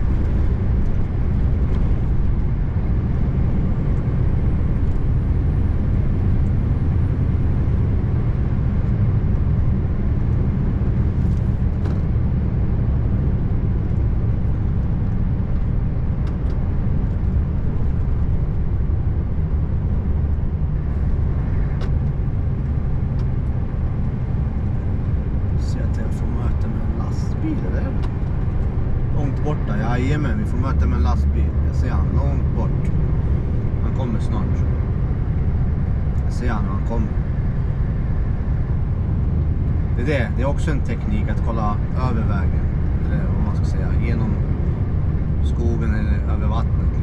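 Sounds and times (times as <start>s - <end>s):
diesel truck engine droning: 0.0s - 47.0s
road noise: 0.0s - 47.0s.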